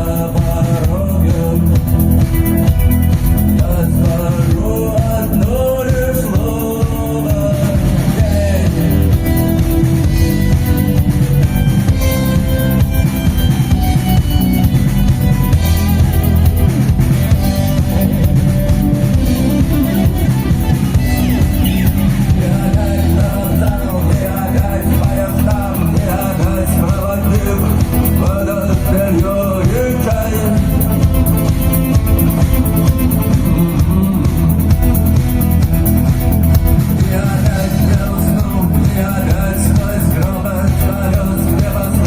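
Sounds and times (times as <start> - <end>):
person singing: 0.0 - 2.8, 3.4 - 13.6, 14.6 - 34.8, 36.8 - 42.0
rock band playing live: 0.0 - 42.0.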